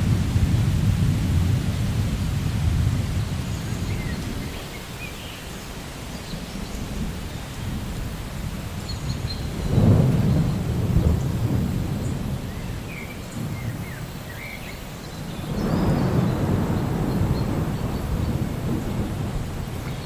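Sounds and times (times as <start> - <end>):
thunder rumbling: 0.0 - 4.6, 6.8 - 20.0
steady rain: 0.0 - 20.0.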